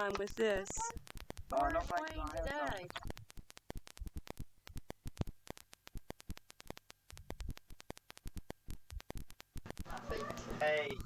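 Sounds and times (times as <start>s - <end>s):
crackling clicks: 0.0s - 11.0s.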